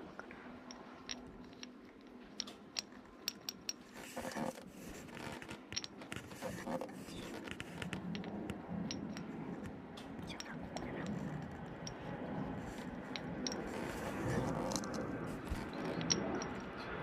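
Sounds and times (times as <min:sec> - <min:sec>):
metal parts clicking: 0:00.6 - 0:09.7, 0:10.3 - 0:16.9
metal parts scraping: 0:00.7 - 0:09.6, 0:10.3 - 0:16.8.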